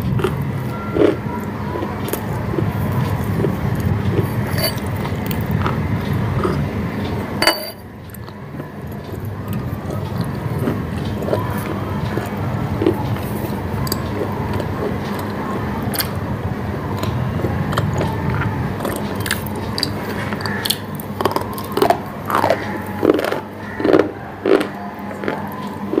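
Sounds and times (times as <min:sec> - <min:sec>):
person chewing crunchy food: 0:00.0 - 0:06.9, 0:08.0 - 0:16.2, 0:16.9 - 0:26.0
low steady hum: 0:00.0 - 0:26.0.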